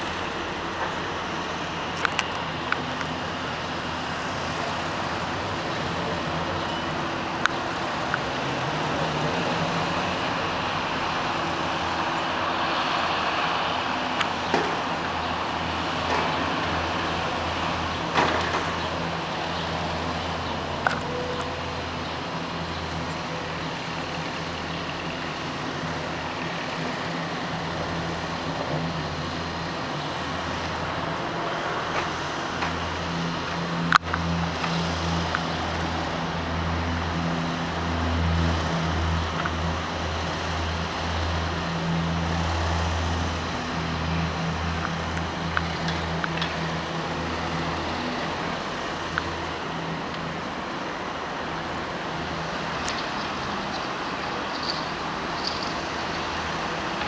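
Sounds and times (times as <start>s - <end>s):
distant city traffic: 0.0s - 57.0s.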